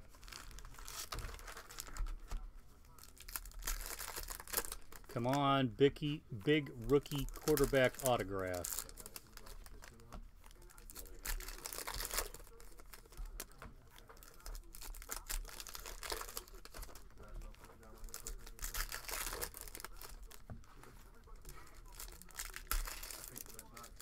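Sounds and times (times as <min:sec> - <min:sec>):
foil packs crinkling and tearing: 0:00.1 - 0:02.3, 0:02.9 - 0:05.3, 0:06.8 - 0:24.0.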